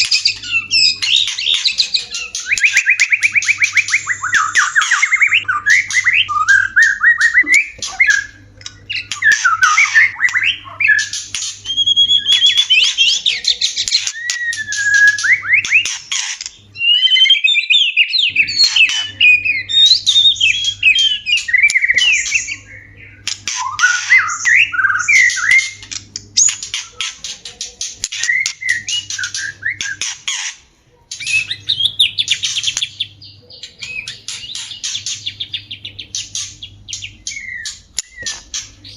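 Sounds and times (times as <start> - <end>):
bird singing whistled phrases: 0.0 - 16.0, 16.8 - 25.8, 28.1 - 30.0, 31.2 - 38.9.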